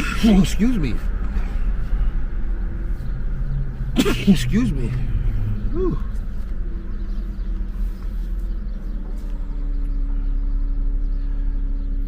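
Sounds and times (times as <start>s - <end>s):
steady hum: 0.0s - 11.6s
car engine and road rumble: 0.0s - 12.0s.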